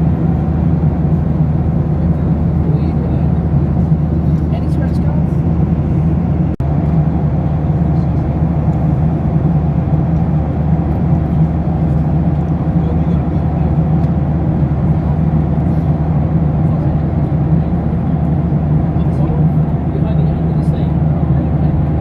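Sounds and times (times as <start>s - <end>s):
airplane cabin engine and airflow rush: 0.0s - 22.0s.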